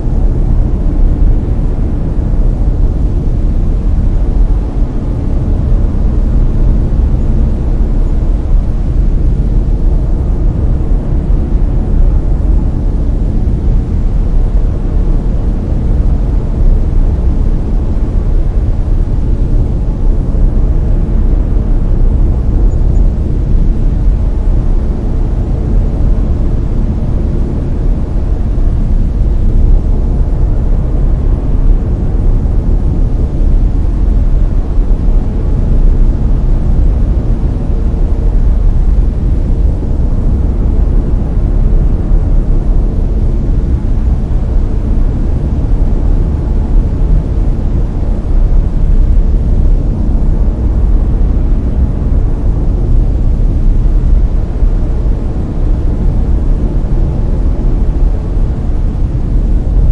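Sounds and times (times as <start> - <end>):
deep steady hiss: 0.0 - 59.9.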